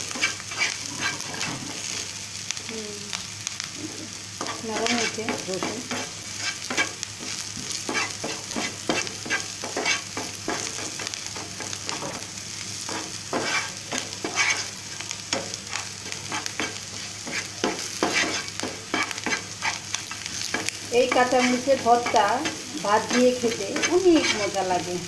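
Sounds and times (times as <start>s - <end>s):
chillies and garlic sizzling in oil: 0.0s - 25.0s
wooden spatula scraping a pan: 0.1s - 2.0s, 4.4s - 24.9s.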